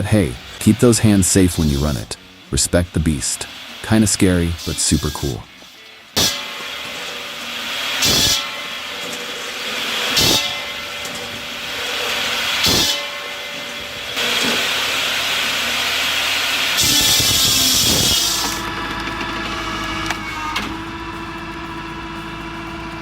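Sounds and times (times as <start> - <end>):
wood-processing machine hissing: 0.0 - 23.0.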